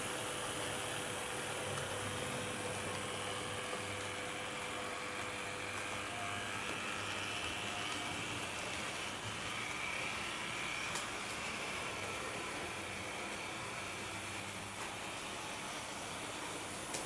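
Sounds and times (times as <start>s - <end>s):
model train motor hum: 0.0s - 17.0s.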